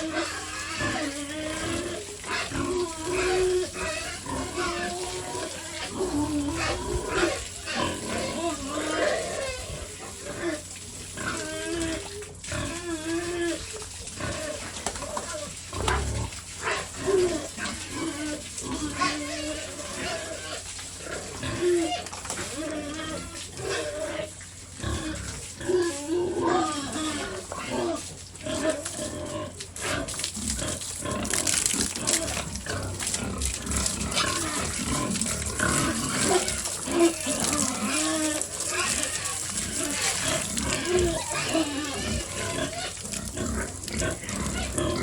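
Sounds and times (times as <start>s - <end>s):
pig squealing: 0.0s - 45.0s.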